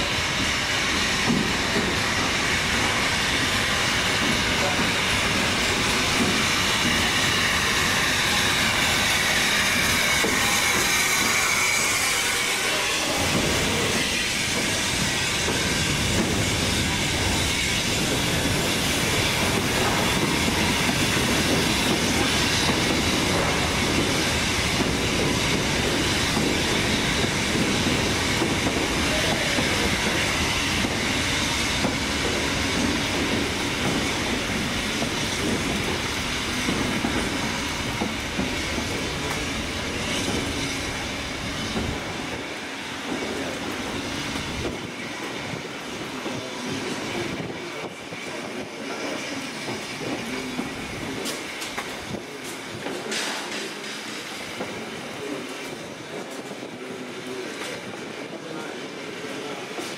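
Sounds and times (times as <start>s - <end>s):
steam hissing: 0.0s - 59.9s
train wheels clicking over rail joints: 0.0s - 59.9s.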